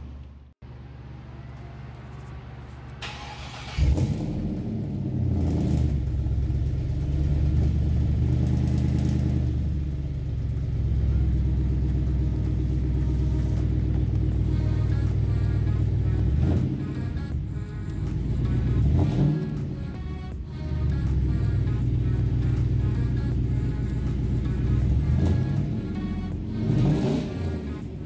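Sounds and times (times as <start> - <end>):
car engine starting: 0.0 - 28.0
engine low rumble: 0.0 - 28.0.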